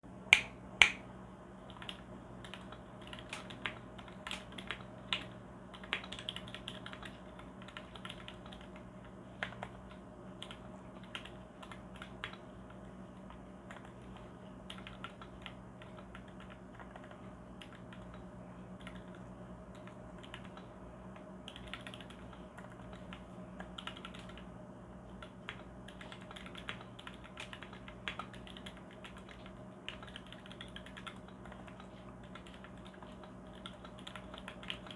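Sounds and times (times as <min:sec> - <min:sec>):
faint steady hum: 0:00.0 - 0:34.9
mechanical keyboard typing: 0:01.7 - 0:18.2, 0:18.8 - 0:24.5, 0:25.2 - 0:34.9.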